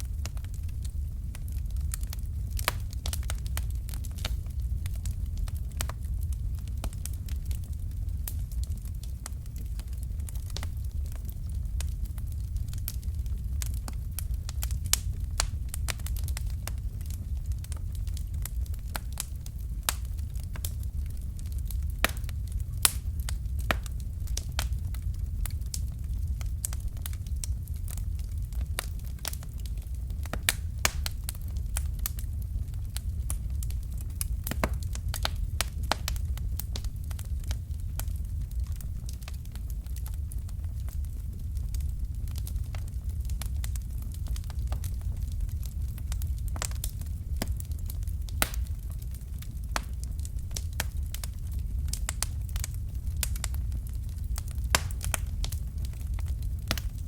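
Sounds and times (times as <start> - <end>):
fire crackling and popping: 0.0 - 57.0
low rumble: 0.0 - 57.0.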